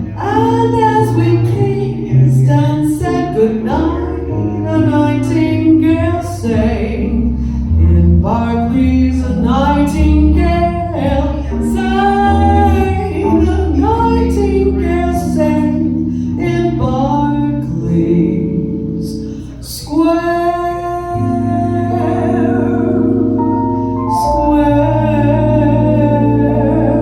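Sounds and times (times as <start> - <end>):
piano accompaniment: 0.0 - 27.0
woman singing jazz ballad: 0.0 - 27.0.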